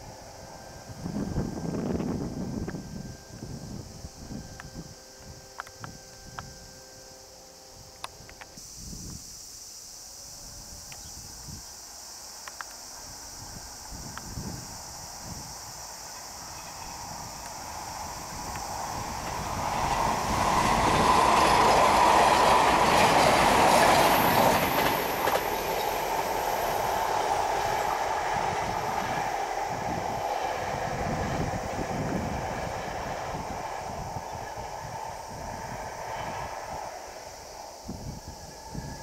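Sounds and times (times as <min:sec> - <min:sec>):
train passing: 0:00.0 - 0:39.0.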